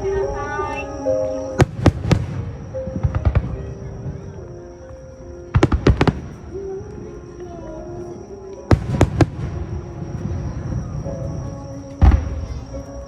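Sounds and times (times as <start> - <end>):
fireworks bursting: 0.0 - 7.2, 8.6 - 13.0
music with long held notes: 0.0 - 13.0.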